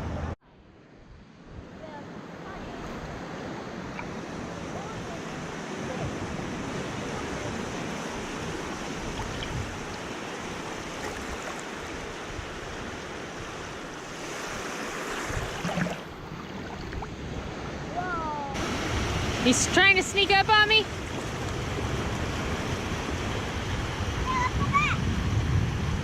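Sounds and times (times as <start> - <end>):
ocean surf washing in: 0.0 - 26.0.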